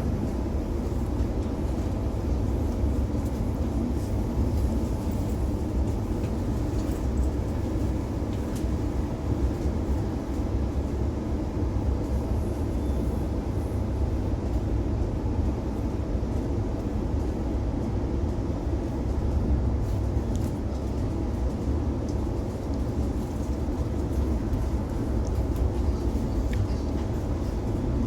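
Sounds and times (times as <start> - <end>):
train rumbling along track: 0.0 - 28.0.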